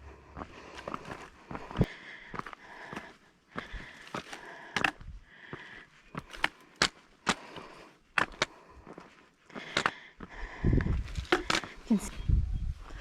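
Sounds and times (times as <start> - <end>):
footsteps crunching on trail: 0.0 - 13.0.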